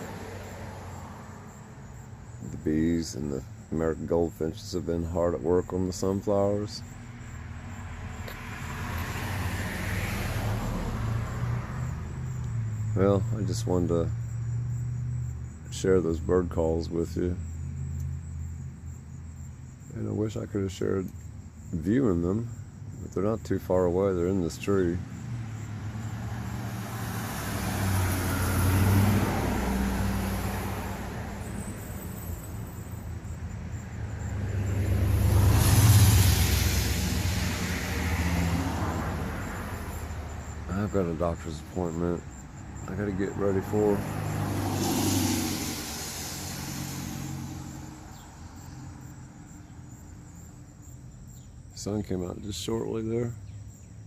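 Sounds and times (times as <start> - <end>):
cars passing: 0.0 - 54.0
insects trilling: 0.0 - 54.0.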